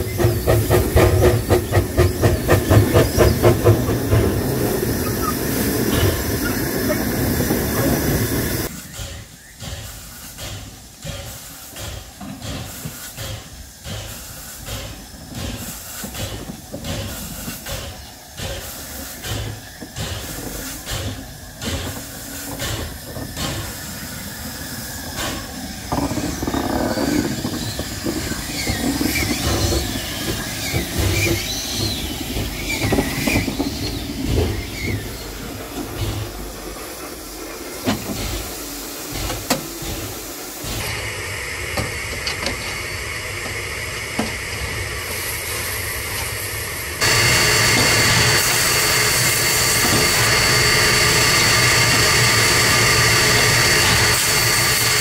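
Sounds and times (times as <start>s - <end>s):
wheel squeal on rails: 0.0s - 40.9s, 47.0s - 55.0s
locomotive chuffing: 0.0s - 55.0s
steam hiss: 0.0s - 55.0s.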